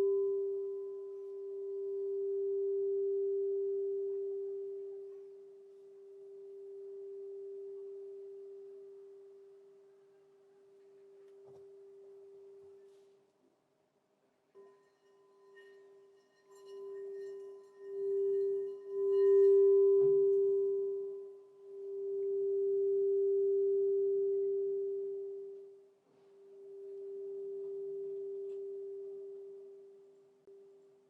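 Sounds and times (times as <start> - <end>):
crystal singing bowl tone: 0.0 - 13.0, 14.5 - 31.0.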